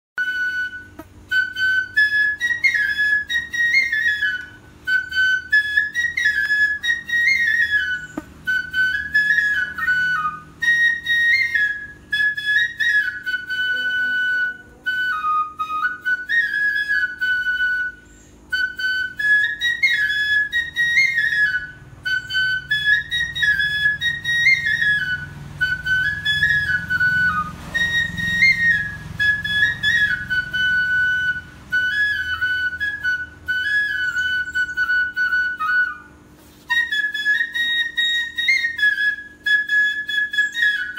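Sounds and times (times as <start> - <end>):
flute melody: 0.2 - 40.9.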